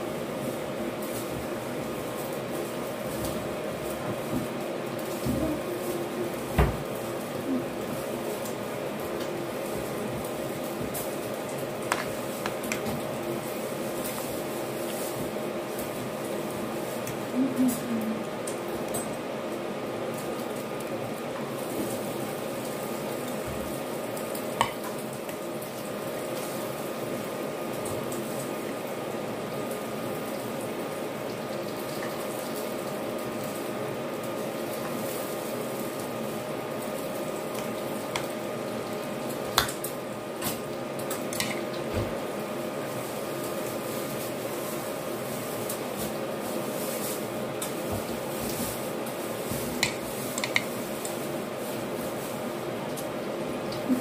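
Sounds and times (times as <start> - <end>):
background hiss and hum: 0.0 - 54.0.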